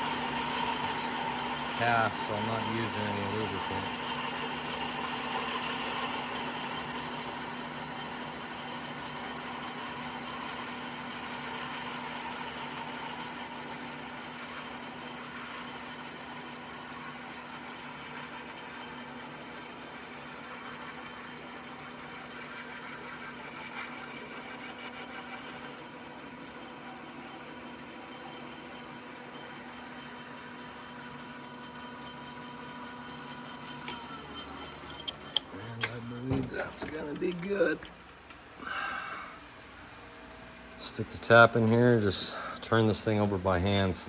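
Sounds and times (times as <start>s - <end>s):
power drill whining: 0.0s - 37.6s.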